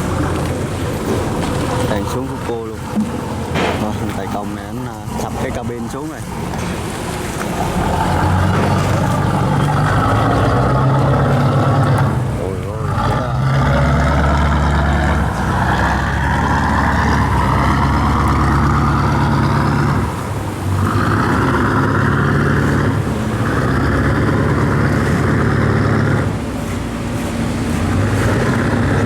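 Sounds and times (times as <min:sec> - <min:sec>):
barge engine drone: 0:00.0 - 0:29.0
rough noisy exhaust: 0:00.0 - 0:29.0.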